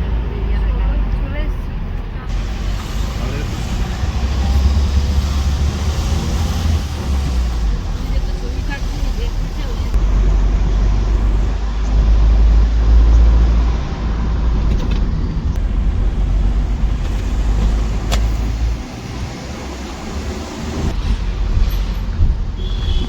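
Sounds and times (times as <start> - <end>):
vehicle rumble: 0.0 - 23.0.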